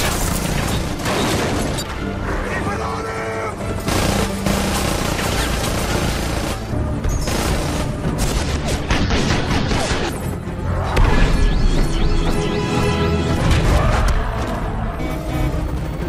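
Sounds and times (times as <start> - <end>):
dramatic orchestral score: 0.0 - 16.0.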